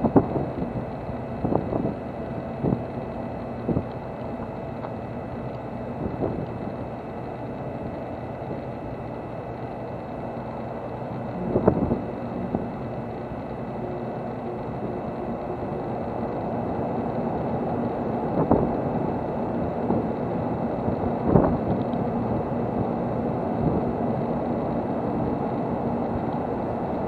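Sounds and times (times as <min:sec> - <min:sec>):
train equipment hum and rumble: 0:00.0 - 0:27.0.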